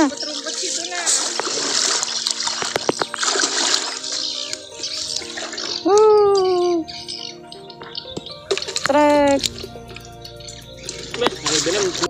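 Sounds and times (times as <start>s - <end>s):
water splashing as person wades: 0.0s - 9.8s, 10.8s - 12.0s.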